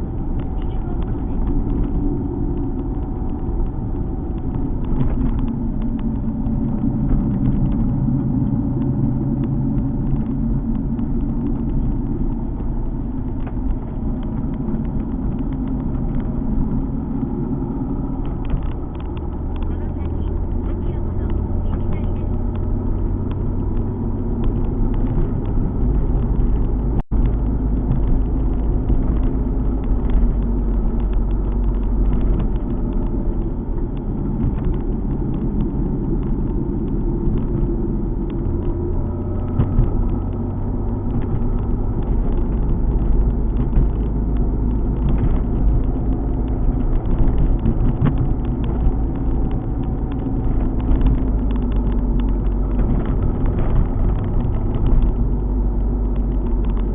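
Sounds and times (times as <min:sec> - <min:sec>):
car engine running: 0:00.0 - 0:56.9
road and tyre rumble: 0:00.0 - 0:56.9.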